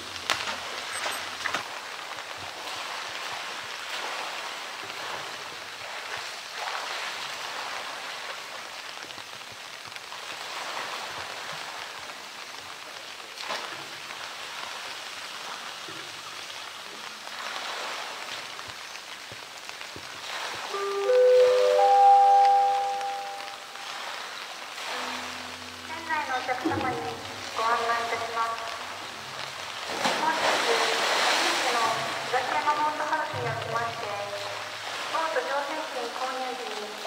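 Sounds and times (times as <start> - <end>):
rain on hard surfaces: 0.0 - 37.0.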